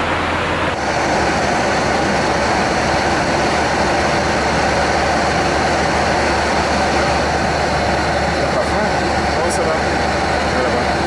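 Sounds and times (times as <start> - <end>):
aircraft engine noise: 0.0 - 11.0
airflow rushing: 0.0 - 11.0
low hum: 0.0 - 11.0.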